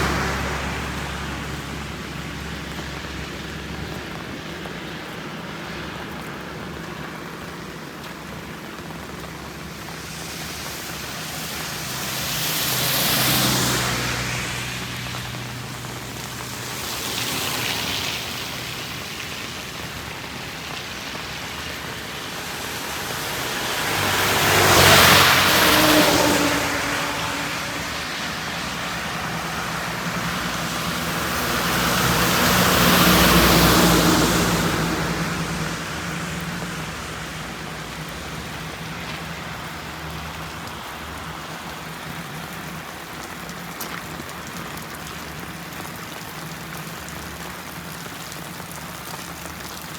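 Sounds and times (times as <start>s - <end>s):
heavy rain: 0.0s - 49.9s
tyres hissing on wet road: 0.0s - 49.9s
vehicle engines humming: 0.0s - 49.9s.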